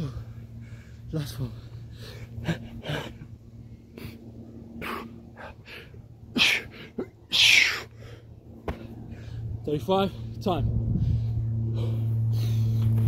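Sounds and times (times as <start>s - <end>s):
man breathing hard: 0.0s - 9.6s, 10.2s - 13.0s
steady low hum: 0.0s - 13.0s.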